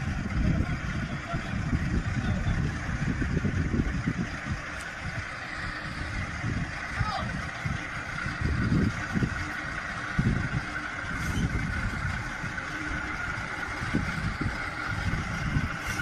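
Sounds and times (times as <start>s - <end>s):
engine low rumble: 0.0s - 16.0s
engine whine: 0.0s - 16.0s.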